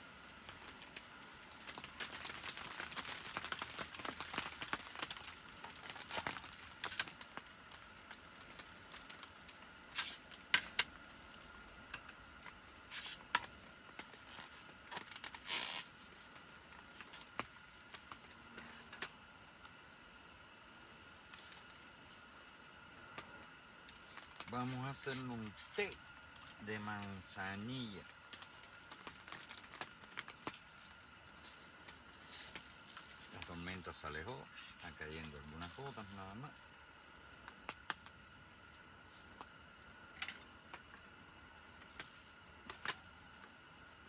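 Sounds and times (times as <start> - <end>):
crinkling and rustling handling noise: 0.2 - 43.6.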